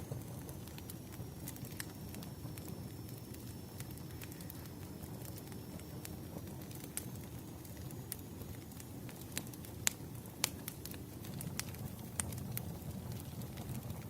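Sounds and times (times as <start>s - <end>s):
fire flames rumbling: 0.0s - 14.0s
firewood crackling and popping: 0.0s - 14.0s.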